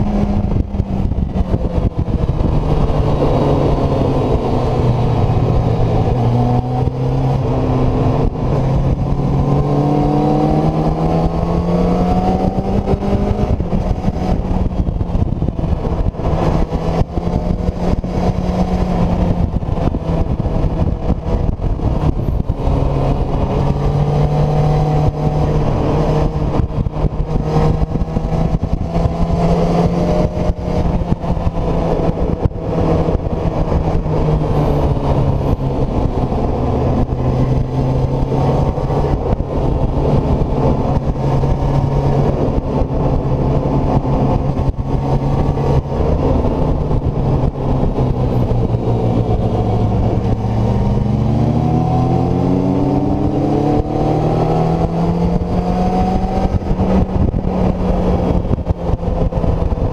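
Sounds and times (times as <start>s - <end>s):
motorcycle engine at high revs: 0.0s - 59.9s
wind noise: 0.0s - 59.9s.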